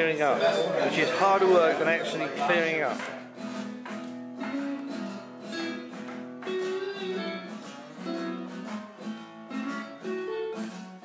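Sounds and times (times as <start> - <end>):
guitar chords strummed: 0.0 - 11.0.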